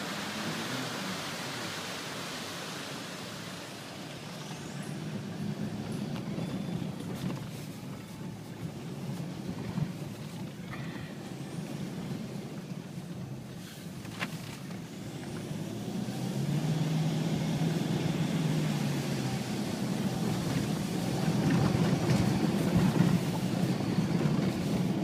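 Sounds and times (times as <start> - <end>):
car rumbling on gravel: 4.5 - 25.0.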